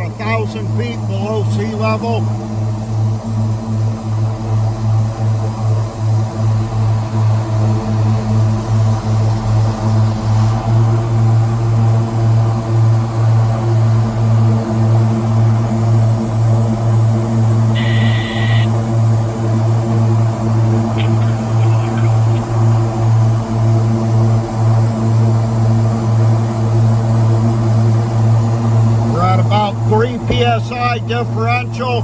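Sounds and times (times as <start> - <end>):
turboprop engines droning: 0.0 - 32.0.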